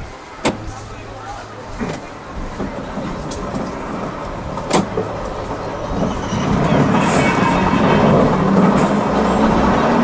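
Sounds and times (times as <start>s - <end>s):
train wheels rolling on rails: 0.0s - 10.0s.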